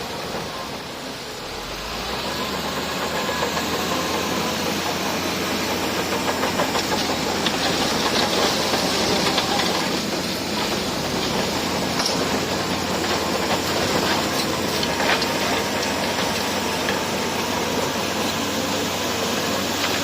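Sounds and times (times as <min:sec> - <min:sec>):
bulldozer engine running: 0:00.0 - 0:20.0
metallic clatter of steel tracks: 0:00.0 - 0:20.0.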